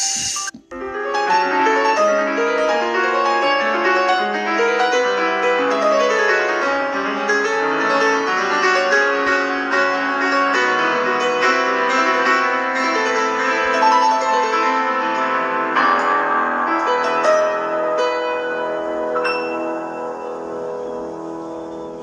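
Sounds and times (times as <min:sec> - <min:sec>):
piano-like ringtone melody: 0:00.0 - 0:22.0.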